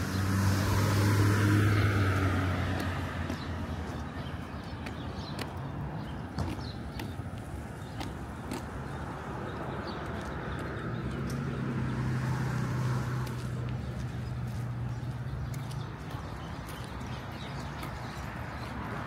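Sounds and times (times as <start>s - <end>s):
traffic noise: 0.0s - 19.0s
vehicle engine hum: 0.0s - 19.0s.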